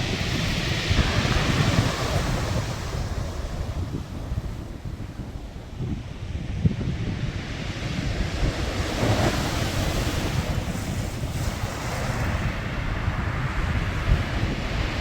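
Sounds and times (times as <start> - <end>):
sea waves breaking: 0.0 - 6.5, 7.2 - 15.0
wind buffeting microphone: 0.0 - 15.0.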